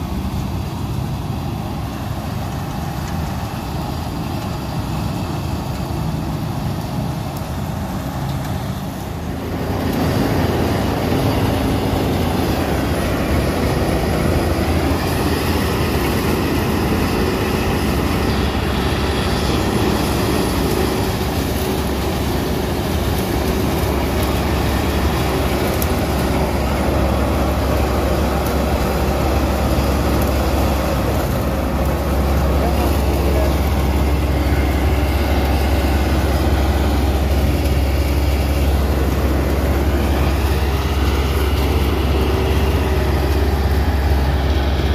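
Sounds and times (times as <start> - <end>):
combine harvester engine and threshing: 0.0 - 44.9.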